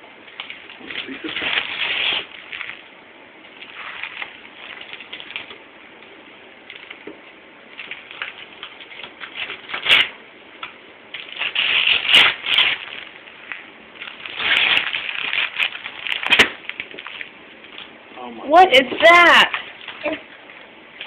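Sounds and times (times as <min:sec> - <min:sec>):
wrapping paper ripping and crinkling: 0:00.3 - 0:02.9, 0:03.5 - 0:05.6, 0:07.7 - 0:18.0, 0:18.6 - 0:21.0.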